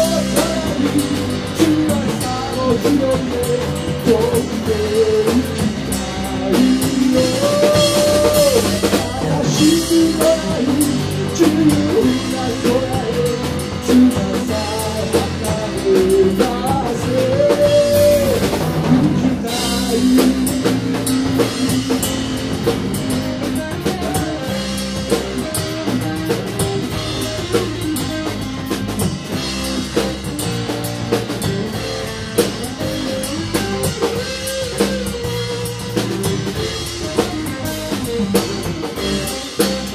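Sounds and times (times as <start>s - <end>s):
rock band playing: 0.0s - 39.9s
sliding melodic lead line: 0.0s - 39.9s.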